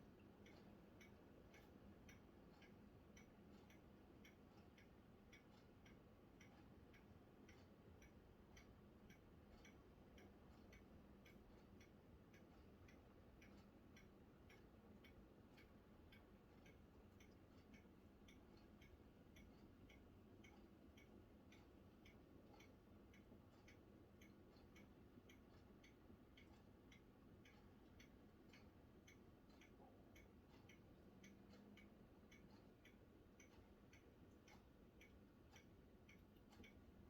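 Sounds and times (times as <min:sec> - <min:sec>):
faint regular ticking: 0:00.0 - 0:37.0
low steady hum: 0:00.0 - 0:37.0.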